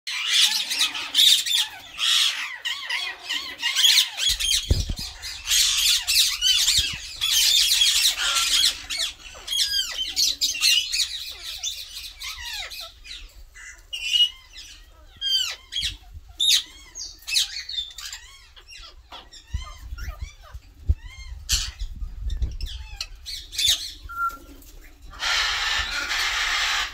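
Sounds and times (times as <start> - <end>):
parakeets squawking: 0.1 - 26.9.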